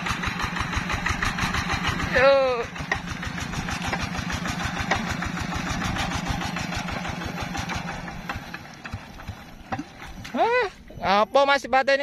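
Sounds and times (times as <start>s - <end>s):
diesel engine running: 0.0s - 11.3s.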